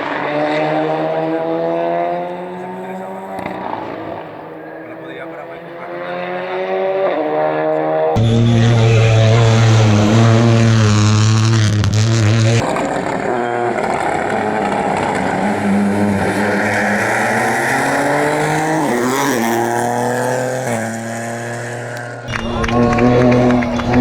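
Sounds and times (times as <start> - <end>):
car engine accelerating: 0.0 - 24.0
rally car engines at speed: 0.0 - 24.0.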